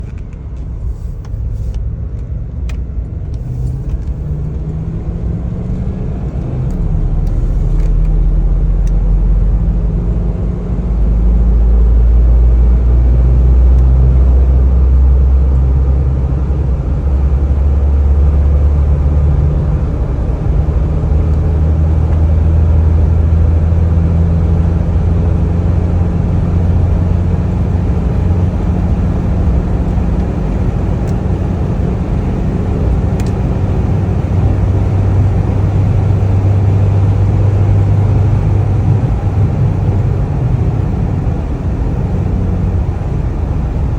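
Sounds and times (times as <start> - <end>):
car engine accelerating: 0.0 - 43.9
road noise: 0.0 - 43.9.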